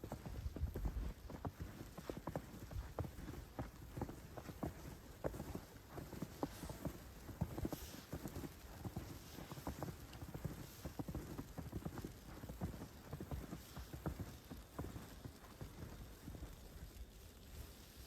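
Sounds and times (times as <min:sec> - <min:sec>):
footsteps on snow: 0:00.0 - 0:18.0.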